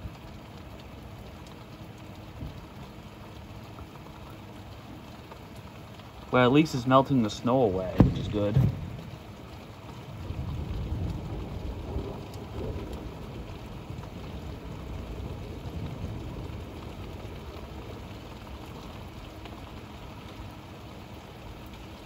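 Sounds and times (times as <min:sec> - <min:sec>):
sharp drips: 0:00.0 - 0:22.0
steady rain: 0:00.0 - 0:22.0.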